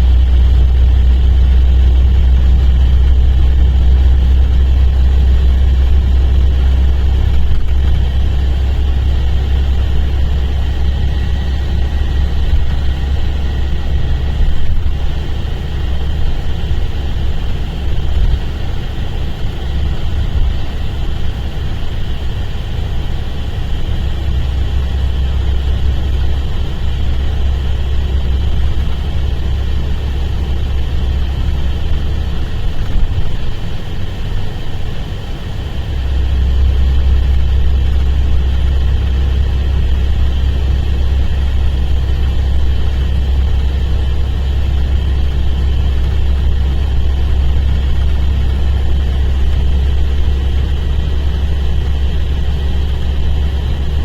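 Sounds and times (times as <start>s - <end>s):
diesel bus engine rumbling: 0.0s - 54.0s.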